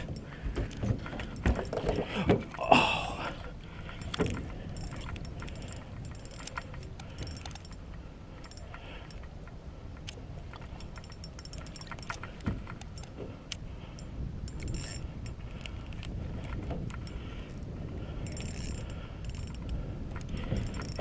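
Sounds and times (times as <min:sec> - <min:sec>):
fishing reel clicking: 0:03.2 - 0:21.0.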